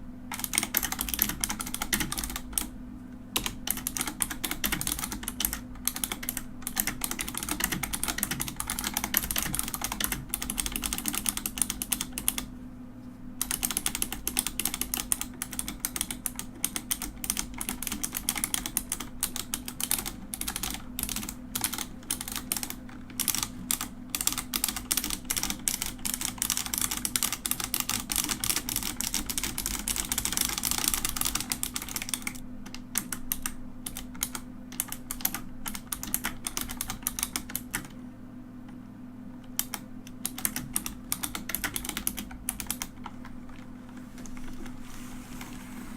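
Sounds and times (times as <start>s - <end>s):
faint low hum: 0.0s - 45.9s
mechanical keyboard typing: 0.3s - 2.7s, 3.4s - 12.5s, 13.4s - 38.0s, 39.5s - 44.7s.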